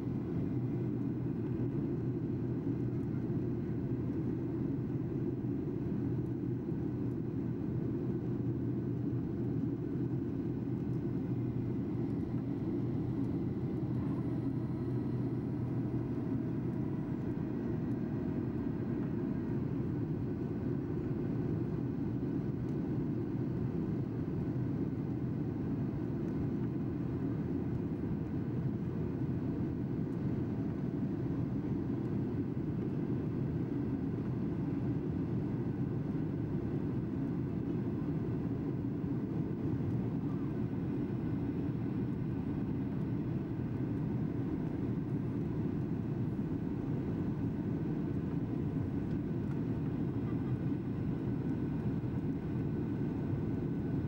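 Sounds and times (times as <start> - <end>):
jet cabin engine and airflow rumble: 0.0 - 54.0.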